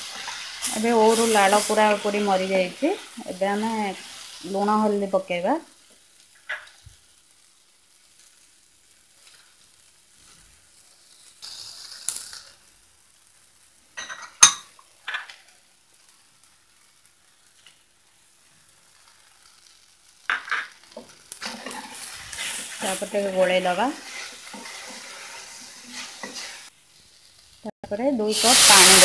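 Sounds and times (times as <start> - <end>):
fruit frying in oil: 0.0 - 29.0.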